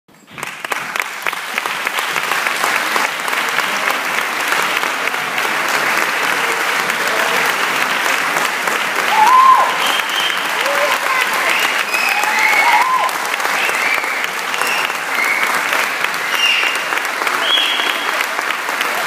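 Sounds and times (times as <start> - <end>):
audience applauding: 0.1 - 19.0.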